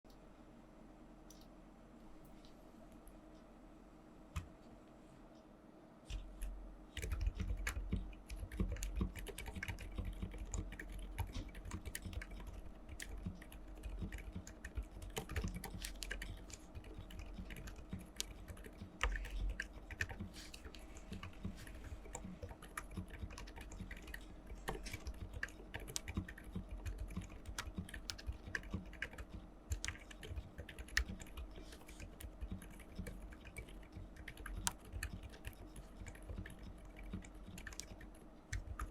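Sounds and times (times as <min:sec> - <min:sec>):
typing on mechanical keyboard: 0:06.1 - 0:38.9.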